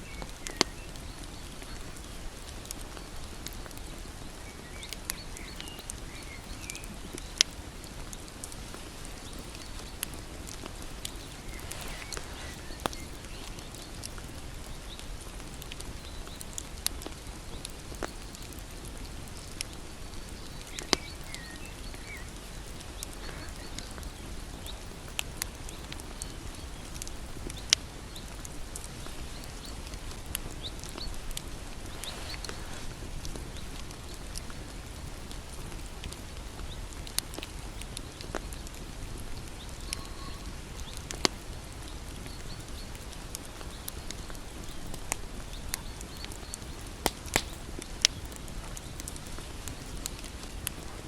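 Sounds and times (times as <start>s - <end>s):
bonfire crackling: 0.0s - 51.0s
burning wood popping and snapping: 0.0s - 51.0s.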